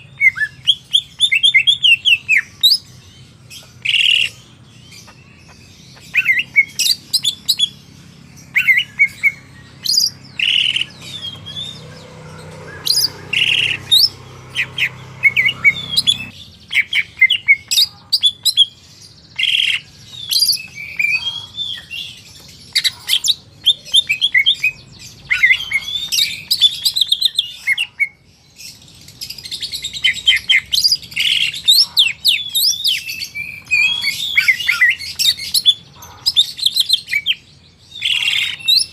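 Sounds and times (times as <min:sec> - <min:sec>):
bird singing chirps and whistles: 0:00.0 - 0:03.0, 0:05.9 - 0:07.8, 0:08.5 - 0:12.0, 0:12.7 - 0:28.2, 0:29.4 - 0:38.9.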